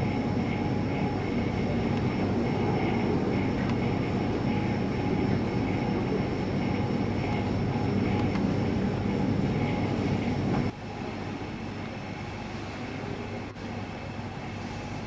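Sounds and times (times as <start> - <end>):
terminal rumble and hum: 0.0 - 12.2.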